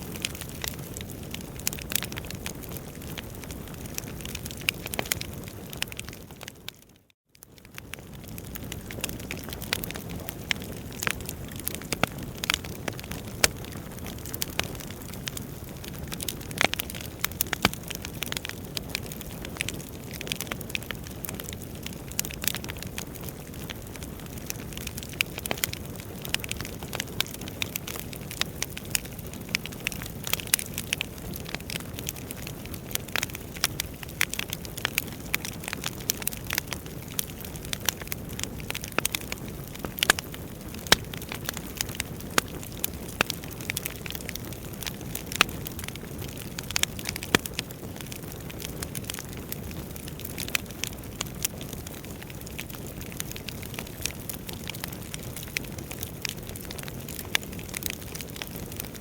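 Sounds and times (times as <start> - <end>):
crackles and pops of burning logs: 0.0 - 59.0
low rumble of flames: 0.0 - 59.0.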